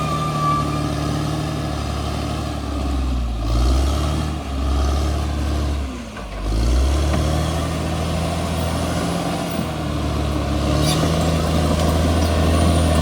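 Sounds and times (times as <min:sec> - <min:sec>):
bulldozer diesel engine under load: 0:00.0 - 0:13.0.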